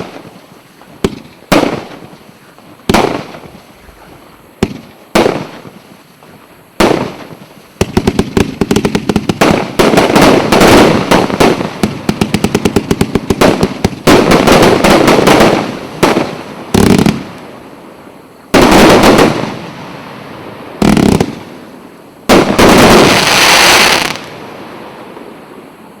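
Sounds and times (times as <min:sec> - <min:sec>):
fireworks shots and aerial bursts: 0:00.0 - 0:26.0.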